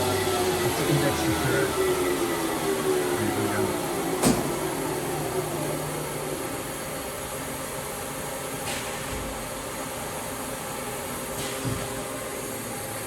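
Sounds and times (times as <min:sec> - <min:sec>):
lathe mechanical hum: 0:00.0 - 0:13.0.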